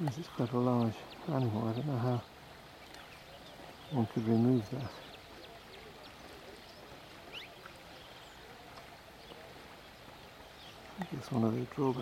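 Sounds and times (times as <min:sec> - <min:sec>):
low outdoor hiss: 0:00.0 - 0:12.0.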